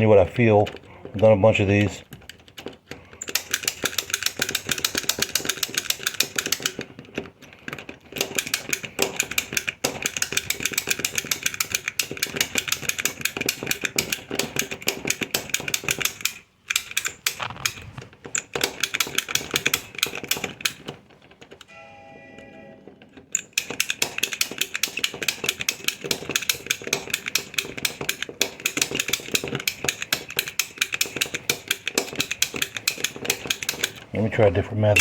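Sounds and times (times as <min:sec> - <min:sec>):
lock pick clicking in lock: 0:02.2 - 0:21.7, 0:23.2 - 0:34.1.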